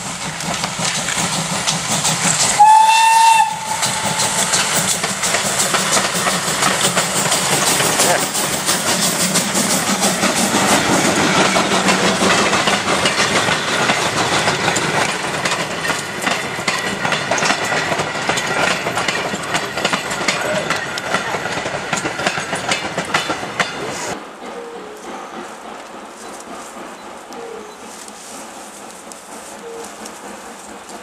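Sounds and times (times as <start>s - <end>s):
train wheels clattering over joints: 0.0s - 31.0s.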